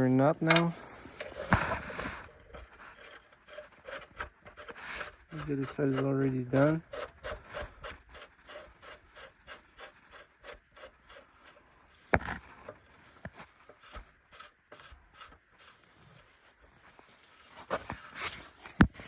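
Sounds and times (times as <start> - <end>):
nut scraping on bolt: 0.4 - 16.3.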